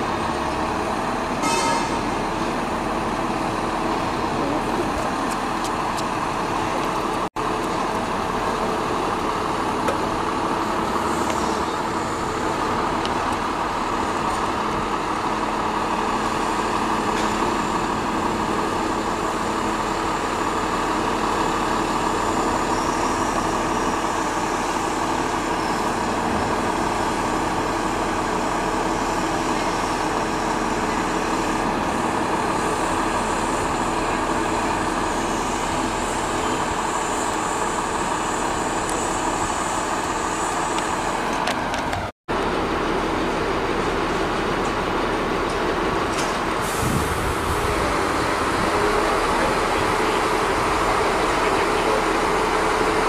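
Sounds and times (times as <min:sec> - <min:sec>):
diesel truck engine running: 0:00.0 - 0:53.0.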